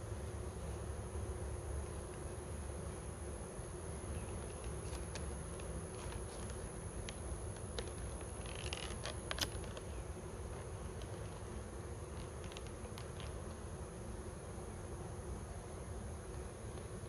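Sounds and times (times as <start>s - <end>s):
honeybees humming: 0.0s - 17.0s.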